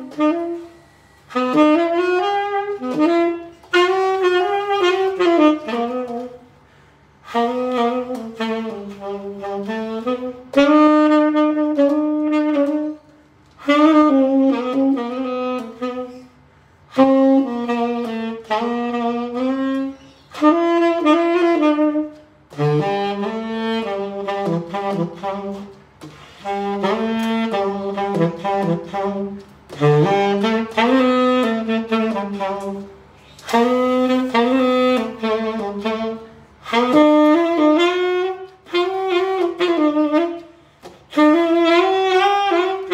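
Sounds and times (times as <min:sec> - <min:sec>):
tenor saxophone melody: 0:00.0 - 0:42.9.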